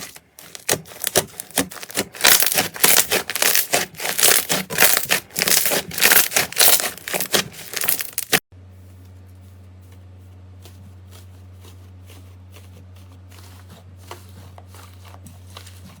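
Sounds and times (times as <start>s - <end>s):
slime crinkling and crackling: 0.0s - 8.4s, 10.6s - 16.0s.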